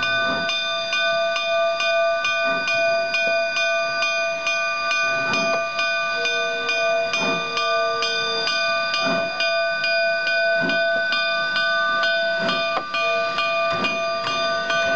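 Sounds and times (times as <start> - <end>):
steam locomotive bell ringing: 0.0 - 14.9.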